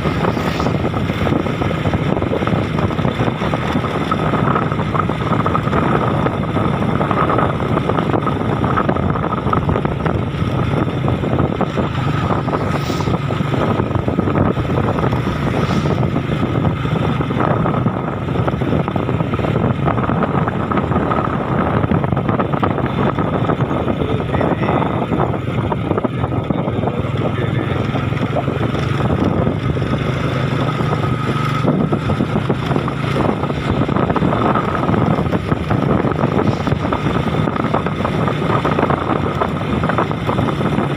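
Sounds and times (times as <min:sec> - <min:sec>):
vehicle engine running: 0:00.0 - 0:40.9
wind noise on microphone: 0:00.0 - 0:40.9.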